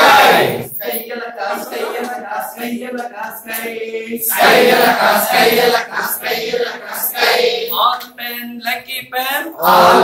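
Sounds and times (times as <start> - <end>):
men chanting in unison: 0.0 - 7.8, 9.6 - 10.0.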